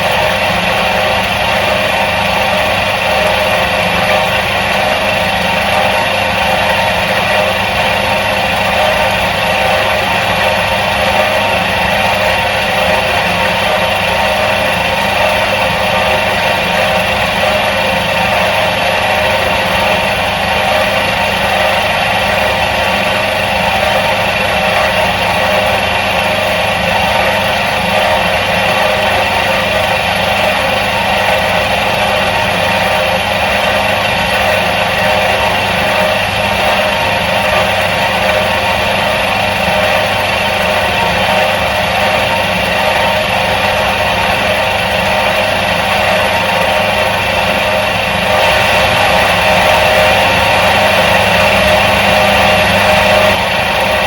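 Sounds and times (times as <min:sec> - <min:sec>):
washing machine motor humming: 0:00.0 - 0:54.0.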